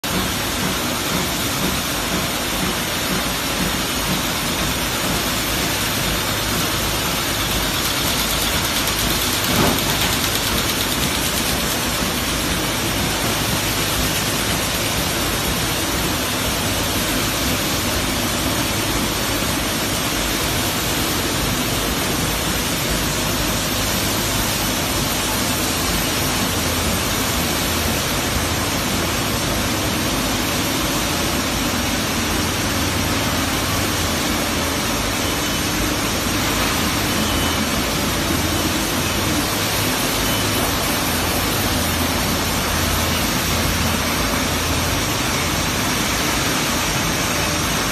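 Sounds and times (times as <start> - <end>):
rotary assembly machines running: 0.0 - 47.9.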